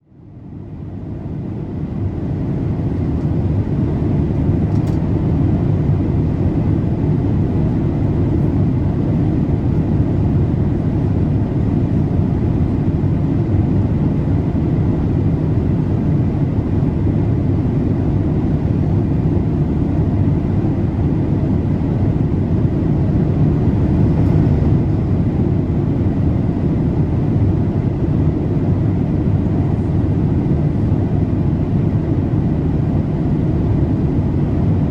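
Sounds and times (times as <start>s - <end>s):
airplane cabin rumble: 0.2s - 34.9s.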